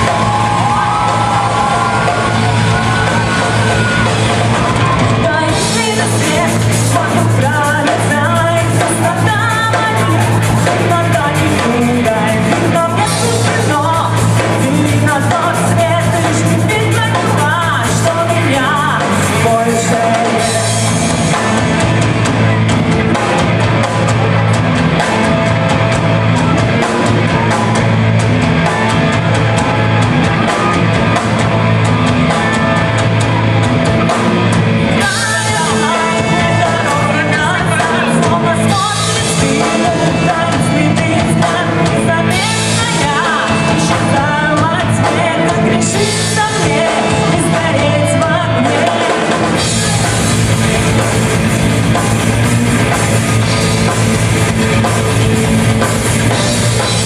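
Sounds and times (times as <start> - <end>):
person singing: 0.0 - 25.2, 28.6 - 54.1
rock band playing loudly: 0.0 - 57.0.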